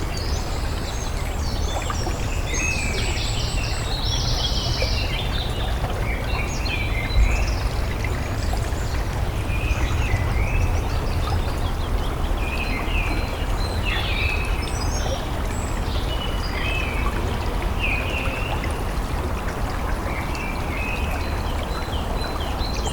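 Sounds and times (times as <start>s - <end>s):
stream water flowing: 0.0s - 22.9s.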